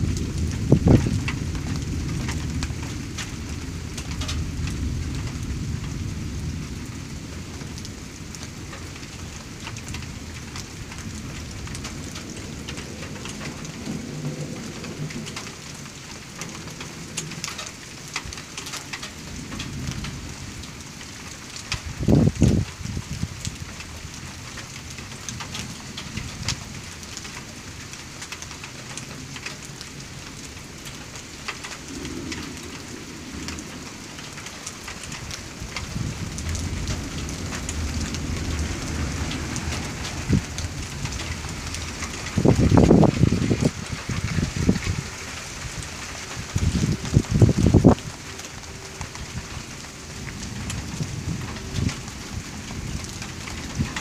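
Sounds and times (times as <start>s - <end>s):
thunder rumbling: 0.0s - 27.9s, 28.6s - 54.0s
raindrops ticking on surface: 0.0s - 54.0s
steady rain: 0.0s - 54.0s.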